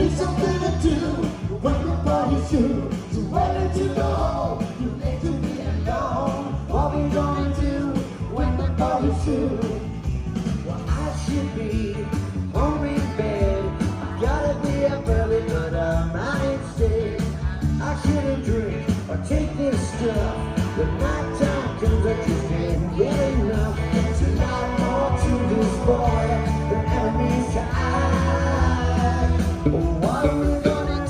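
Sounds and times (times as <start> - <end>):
live rock band playing: 0.0 - 31.0
man singing: 0.0 - 31.0.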